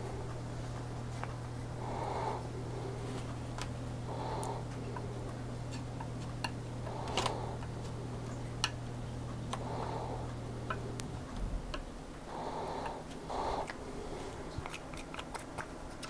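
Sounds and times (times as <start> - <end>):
low hum: 0.0 - 14.7.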